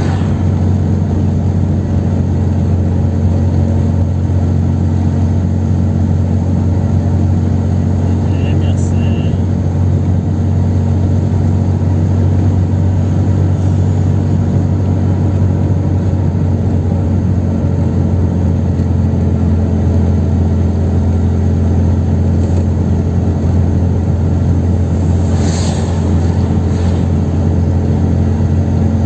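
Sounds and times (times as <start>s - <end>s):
car engine cruising drone: 0.0s - 29.0s.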